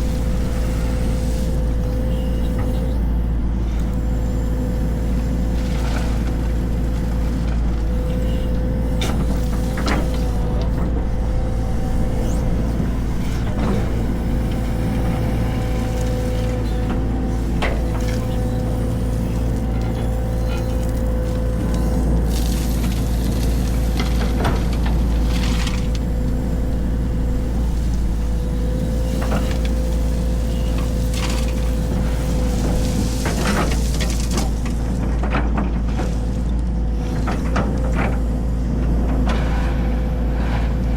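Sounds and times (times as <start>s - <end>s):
diesel machinery rumbling: 0.0s - 40.9s.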